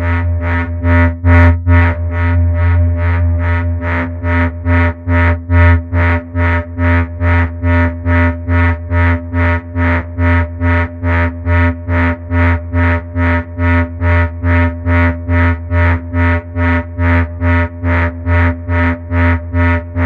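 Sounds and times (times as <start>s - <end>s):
pulsing low synthesizer bass tone: 0.0s - 20.0s.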